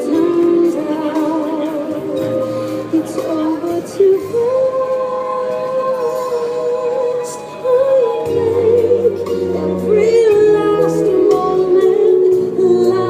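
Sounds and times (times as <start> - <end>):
slow backing track: 0.0 - 13.0
woman singing with vibrato: 0.0 - 13.0.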